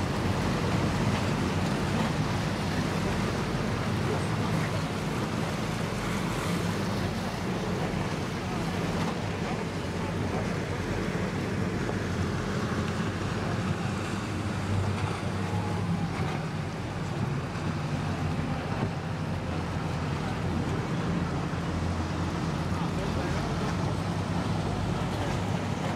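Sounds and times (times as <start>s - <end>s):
low engine hum: 0.0s - 25.9s
waves over open water: 0.0s - 25.9s
wind: 0.0s - 25.9s.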